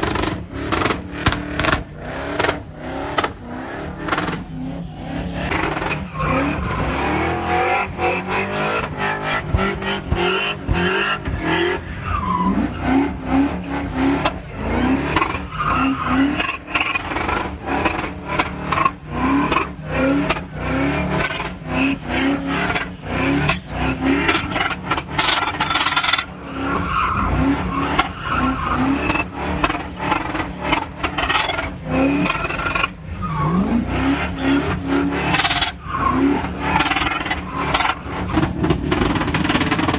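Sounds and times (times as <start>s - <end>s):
tyres squealing and skidding: 0.0s - 39.9s
vehicle engines revving hard: 0.0s - 39.9s.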